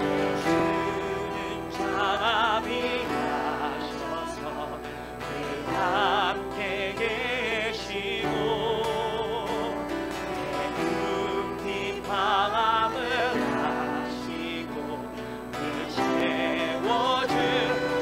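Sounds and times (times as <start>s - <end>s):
person singing with vibrato: 0.0s - 18.0s
strummed acoustic guitar: 0.0s - 18.0s.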